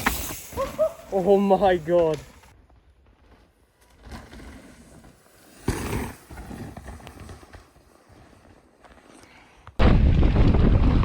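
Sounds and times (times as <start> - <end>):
bike tyre rumble on dirt: 0.0 - 11.0.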